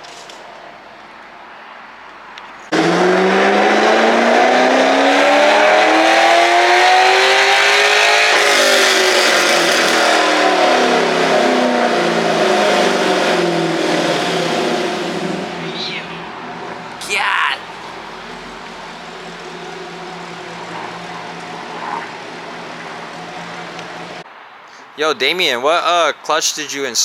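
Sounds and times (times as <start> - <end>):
car engine under hard load: 2.1 - 24.3.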